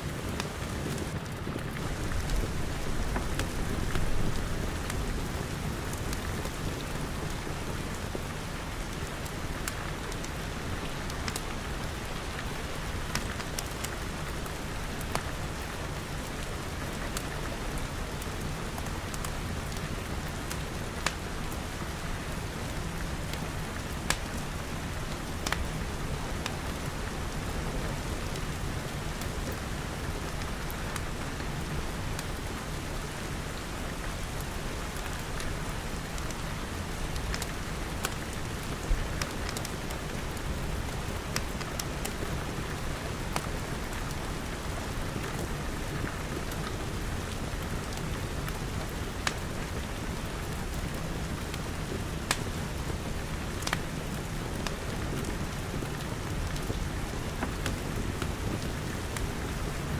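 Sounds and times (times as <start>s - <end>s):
steady rain falling: 0.0s - 59.9s
wood fire crackles: 0.0s - 59.9s.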